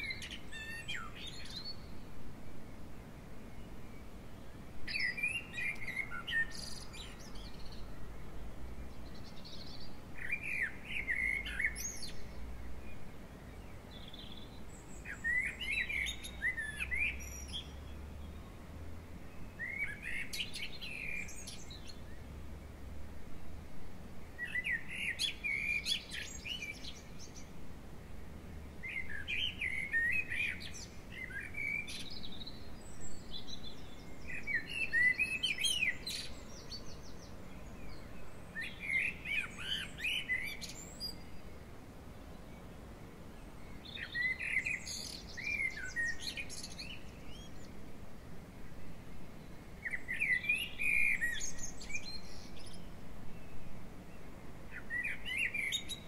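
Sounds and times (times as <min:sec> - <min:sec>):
songbird singing chirping phrases: 0:00.0 - 0:56.0.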